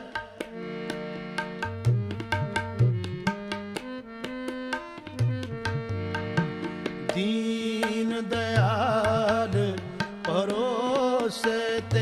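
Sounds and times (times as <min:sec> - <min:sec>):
harmonium sustained notes: 0:00.0 - 0:12.0
tabla playing rapid pattern: 0:00.0 - 0:12.0.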